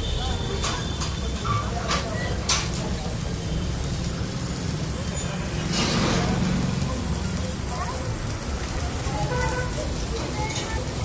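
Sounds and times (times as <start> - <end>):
arc welding hum and hiss: 0.0 - 11.0
welding crackles: 0.0 - 11.0.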